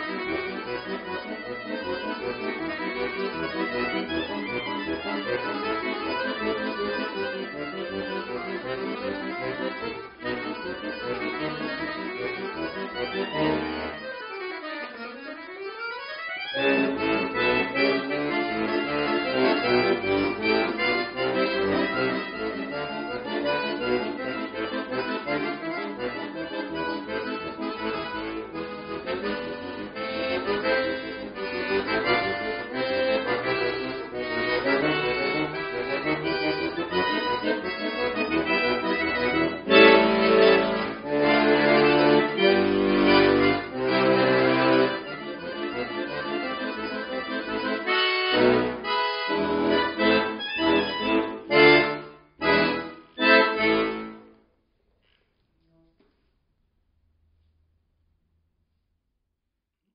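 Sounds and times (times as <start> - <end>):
button accordion playing: 0.0 - 54.5.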